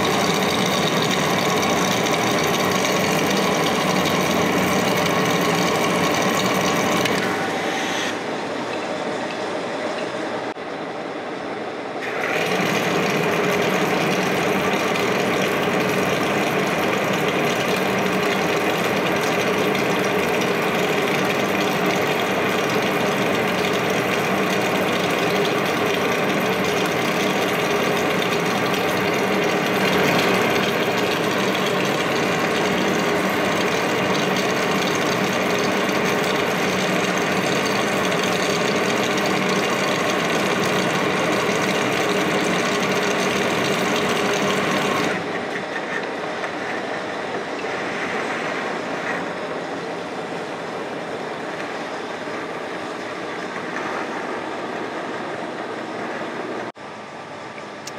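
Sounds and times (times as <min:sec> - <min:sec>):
lathe spindle running under load: 0:00.0 - 0:57.9.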